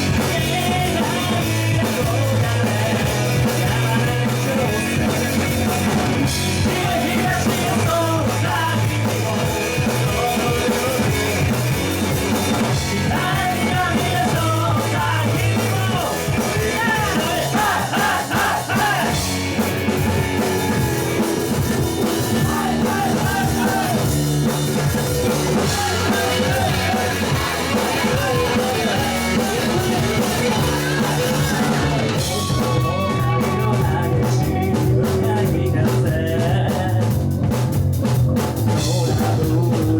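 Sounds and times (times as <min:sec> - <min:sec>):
person singing: 0:00.0 - 0:11.7, 0:12.5 - 0:19.2, 0:22.0 - 0:24.2, 0:25.2 - 0:37.2
rock band playing: 0:00.0 - 0:39.9.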